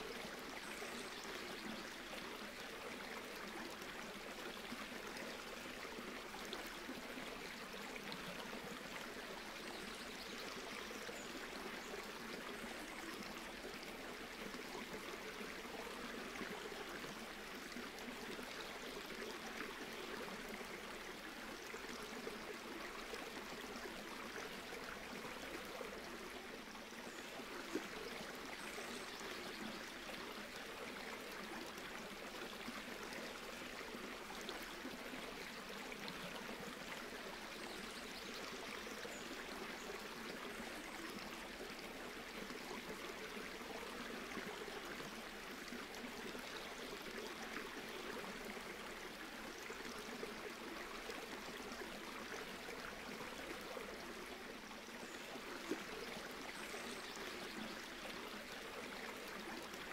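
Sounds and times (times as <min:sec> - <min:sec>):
stream rippling over stones: 0:00.0 - 0:59.9.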